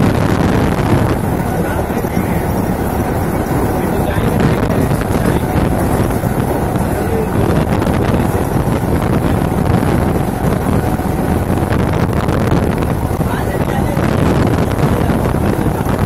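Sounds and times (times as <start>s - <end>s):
train running rumble: 0.0s - 16.0s
wind buffeting microphone: 0.0s - 16.0s.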